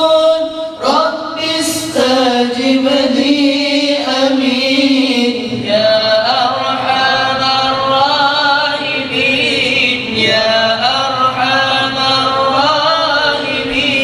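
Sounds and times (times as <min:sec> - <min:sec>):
men chanting: 0:00.0 - 0:14.0.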